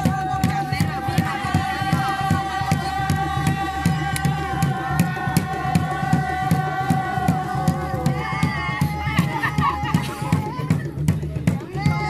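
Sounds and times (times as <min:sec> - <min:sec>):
steady drum beat: 0:00.0 - 0:12.0
group chanting held notes: 0:00.4 - 0:10.4.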